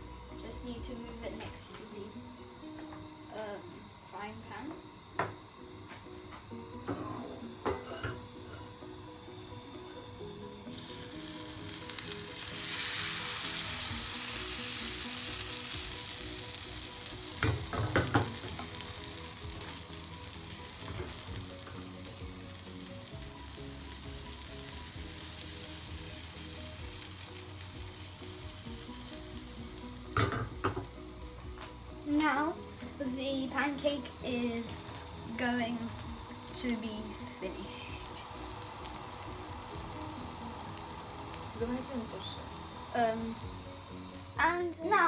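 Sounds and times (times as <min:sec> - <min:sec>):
batter sizzling in frying pan: 0:02.8 - 0:45.0.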